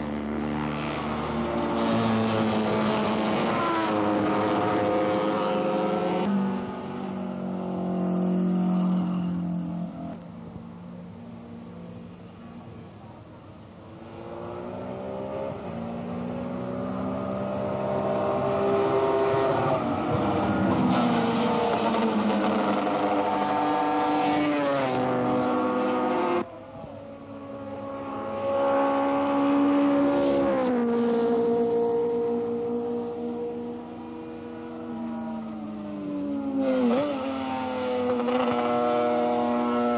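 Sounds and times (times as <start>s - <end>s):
racing motorbike engines revving: 0.0s - 39.9s.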